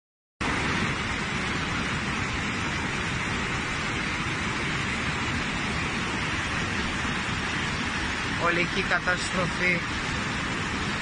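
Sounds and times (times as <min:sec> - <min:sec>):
flood torrent rushing: 0:00.4 - 0:11.0.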